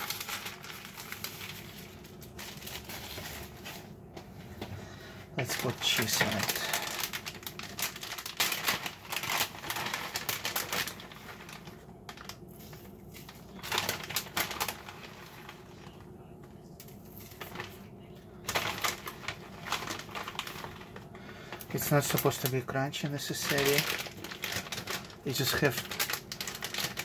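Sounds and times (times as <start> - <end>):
plastic bag crinkling: 0.0 - 4.1, 5.4 - 27.0
cheese shreds rustling on paper: 0.0 - 4.6, 5.4 - 27.0.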